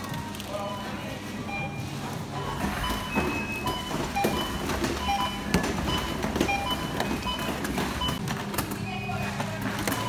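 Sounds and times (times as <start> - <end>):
store din: 0.0 - 10.0
barcode scanners beeping: 0.1 - 10.0.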